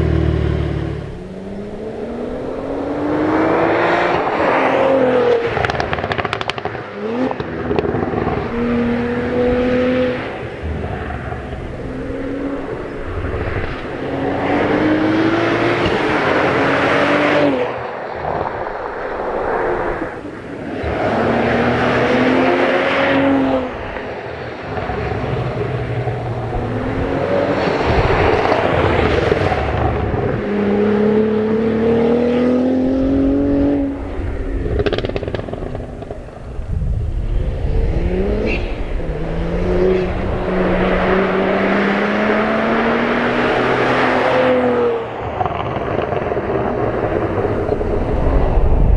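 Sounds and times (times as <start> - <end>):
car engine accelerating hard: 0.0 - 48.9.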